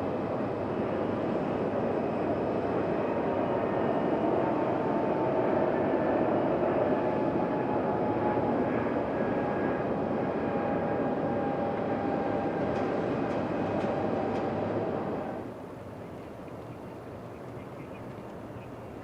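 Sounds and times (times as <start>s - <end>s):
distant jet engines running: 0.0s - 19.0s.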